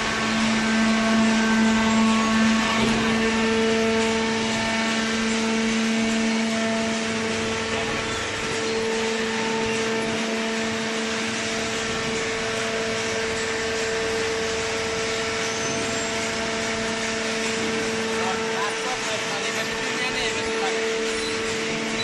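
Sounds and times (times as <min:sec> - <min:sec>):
electric motor and pump humming: 0:00.0 - 0:22.0.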